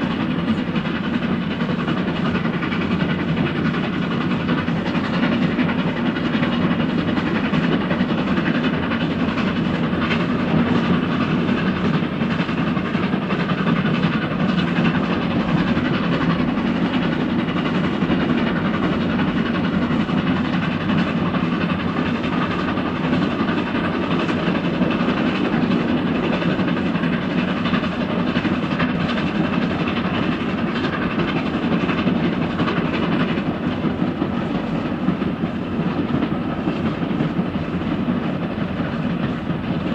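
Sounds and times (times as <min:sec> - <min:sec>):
train wheels on track: 0:00.0 - 0:39.9.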